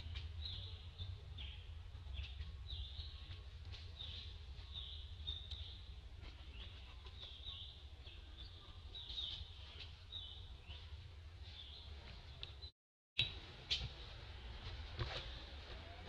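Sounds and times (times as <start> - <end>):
bird chirping: 0.0 - 13.4.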